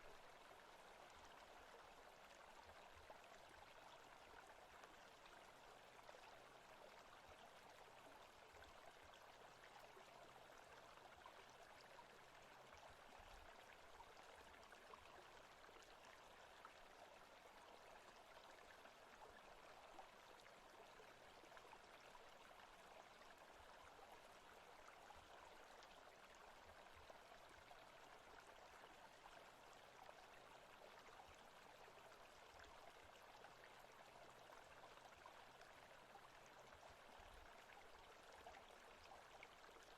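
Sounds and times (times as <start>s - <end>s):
running stream water: 0.0s - 39.9s.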